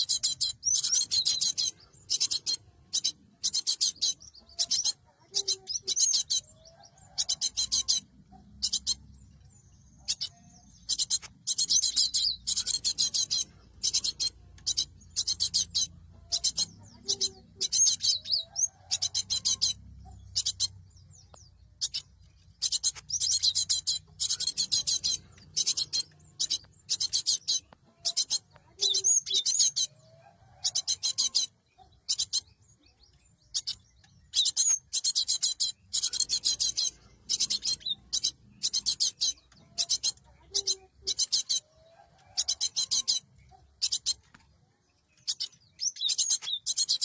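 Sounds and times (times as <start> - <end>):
bird chattering song: 0.0 - 47.0.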